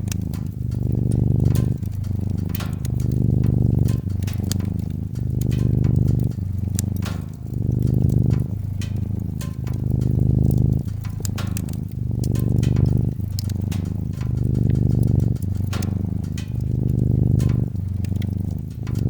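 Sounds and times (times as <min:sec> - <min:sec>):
cat purring: 0:00.0 - 0:19.0
wood fire crackling and popping: 0:00.0 - 0:19.0.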